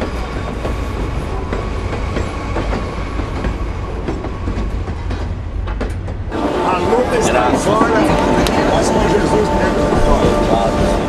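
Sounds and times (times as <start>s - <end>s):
train rumbling along rails: 0.0s - 11.0s.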